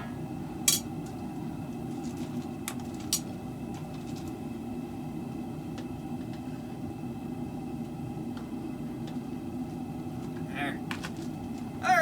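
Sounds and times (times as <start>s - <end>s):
forge burner roaring: 0.0s - 12.0s.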